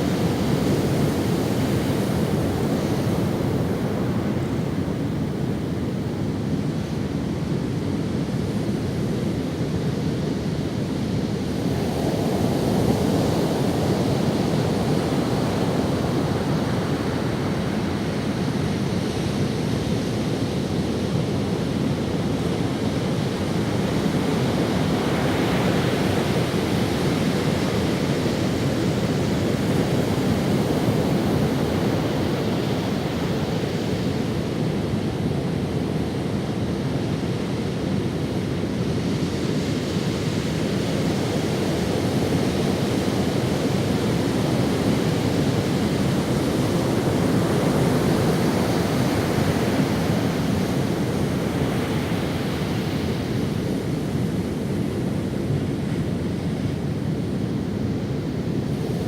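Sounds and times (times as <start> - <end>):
ocean waves breaking on sand: 0.0 - 59.0.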